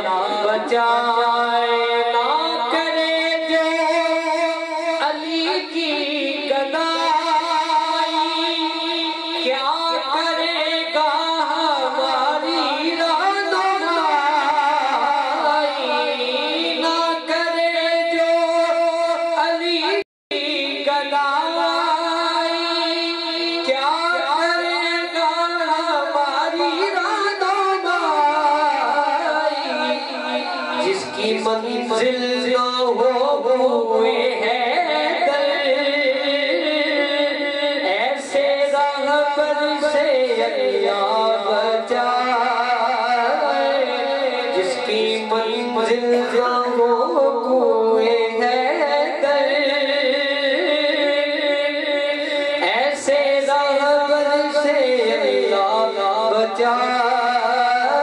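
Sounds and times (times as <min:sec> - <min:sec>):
man singing into a microphone: 0:00.0 - 0:58.0.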